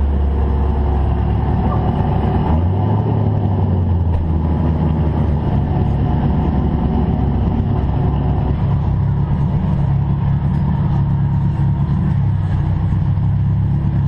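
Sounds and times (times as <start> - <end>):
engine idling with low rumble: 0.0 - 14.0.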